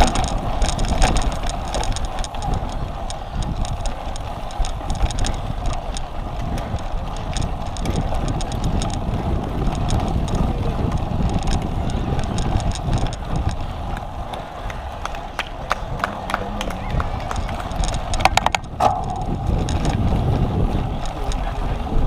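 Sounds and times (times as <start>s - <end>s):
light rattling clicks: 0.0s - 14.4s, 17.3s - 20.2s, 20.9s - 21.6s
bike rolling over rough ground: 0.0s - 22.0s
wind on microphone: 0.0s - 22.0s.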